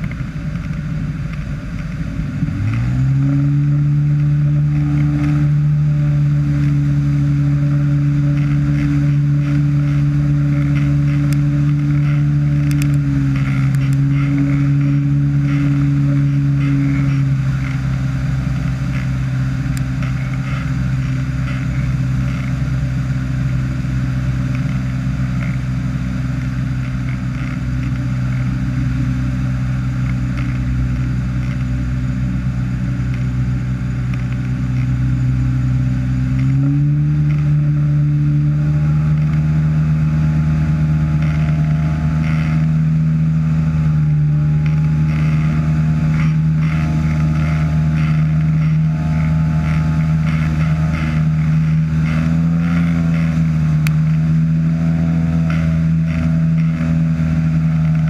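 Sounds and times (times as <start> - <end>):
ultralight engine and propeller drone: 0.0 - 58.0.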